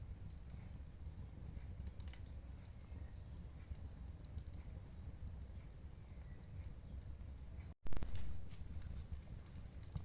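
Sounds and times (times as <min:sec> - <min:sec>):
fire popping: 0:00.0 - 0:10.0
low steady rumble: 0:00.0 - 0:10.0
wood fire crackling: 0:00.0 - 0:10.0.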